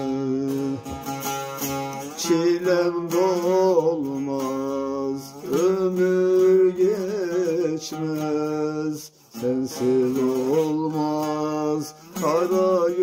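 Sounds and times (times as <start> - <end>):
long-necked lute picking: 0.0 - 13.0.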